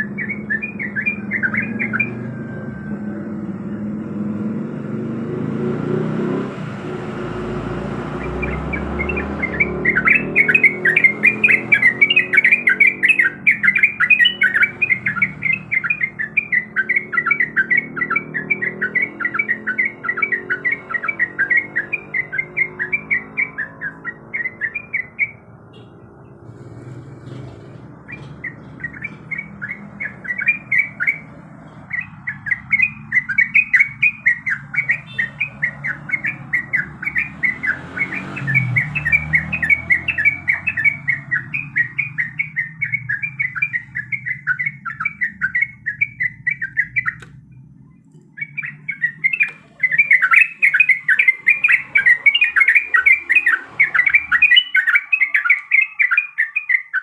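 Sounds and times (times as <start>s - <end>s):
bird chattering song: 0.0s - 3.3s, 5.6s - 57.0s.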